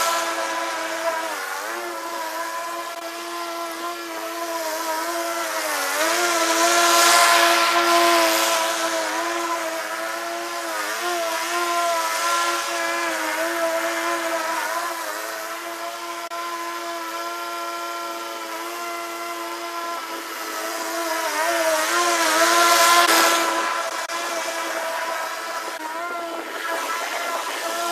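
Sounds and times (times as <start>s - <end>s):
lawn mower engine running: 0.0s - 27.9s.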